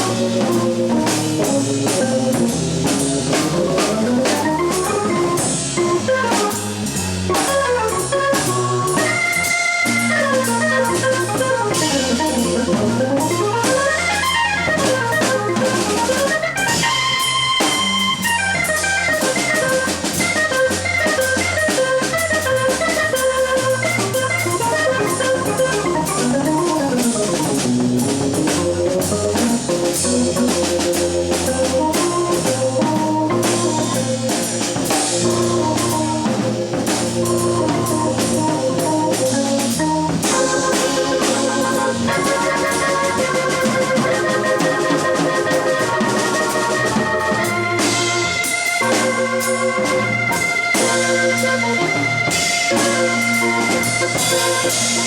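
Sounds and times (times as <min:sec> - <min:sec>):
drum kit cymbals: 0:00.0 - 0:55.0
keyboard fast runs: 0:00.0 - 0:55.0
low bass notes: 0:00.0 - 0:55.0.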